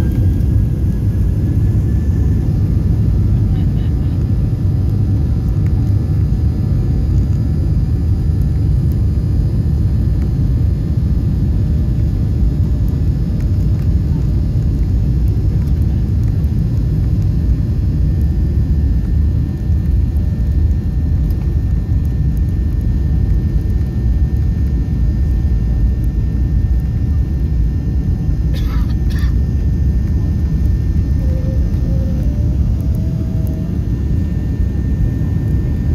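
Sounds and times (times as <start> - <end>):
jet engines at high power: 0.0 - 35.9
plane rolling down runway: 0.0 - 35.9.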